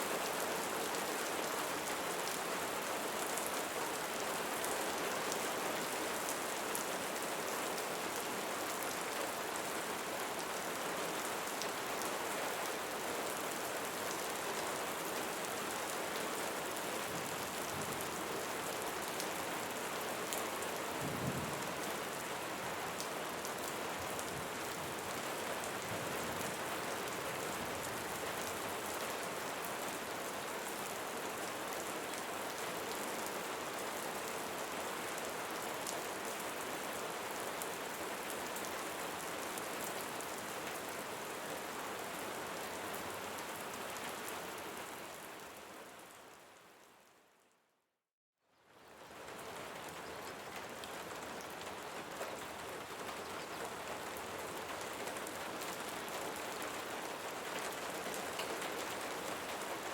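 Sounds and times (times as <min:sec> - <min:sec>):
steady rainfall: 0:00.0 - 0:47.2, 0:48.6 - 0:59.9.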